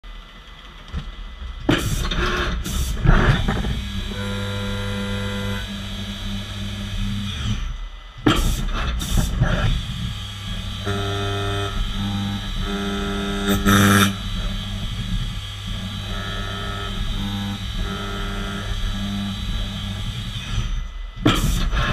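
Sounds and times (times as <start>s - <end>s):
machine whine: 0.1s - 21.9s.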